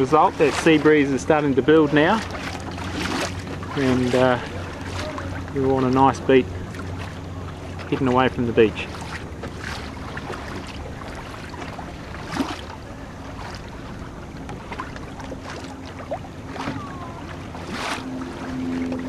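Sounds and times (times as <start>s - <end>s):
faint low hum: 0.0s - 19.0s
water splashing against hull: 0.0s - 19.0s.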